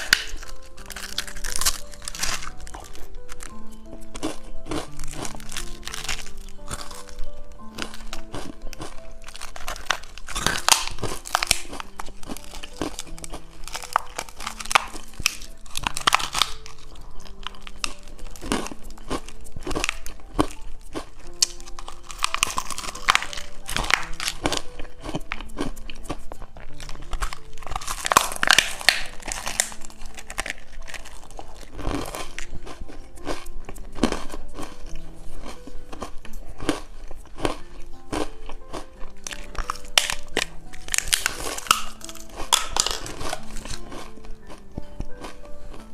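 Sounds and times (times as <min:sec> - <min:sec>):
crunchy snack chewing: 0:00.0 - 0:45.9
soft background music: 0:00.0 - 0:45.9.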